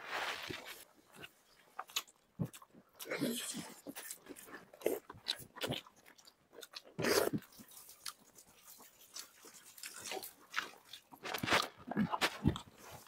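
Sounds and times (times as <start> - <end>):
wet chewing and lip-smacking: 1.0 - 13.0.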